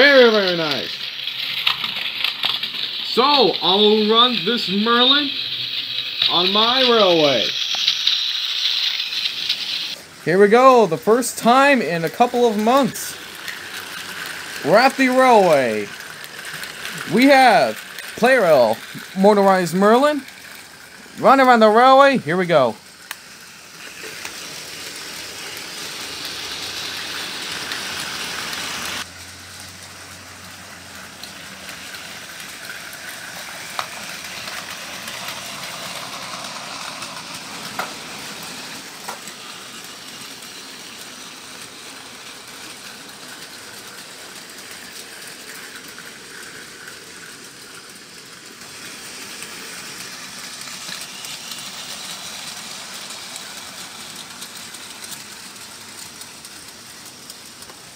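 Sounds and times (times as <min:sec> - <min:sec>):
toy train motor whirring: 0:00.0 - 0:57.9
wheels rattling on plastic track: 0:00.0 - 0:57.9.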